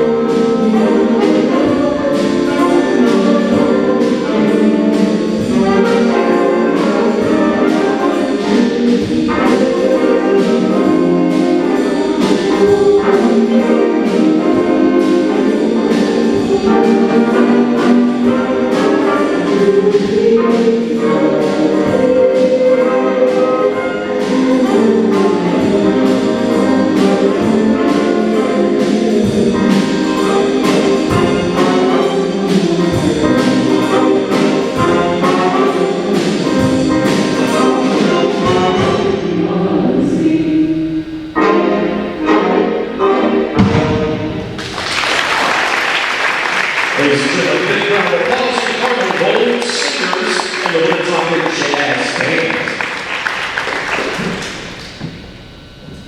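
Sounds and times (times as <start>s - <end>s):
trumpets and trombones: 0.0s - 55.2s
jazz band playing: 0.0s - 55.5s.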